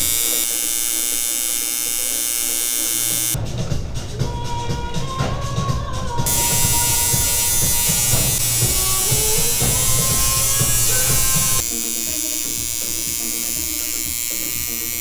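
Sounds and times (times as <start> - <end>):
tattoo machine buzzing: 0.0 - 3.4, 6.3 - 15.0
background music: 2.3 - 15.0.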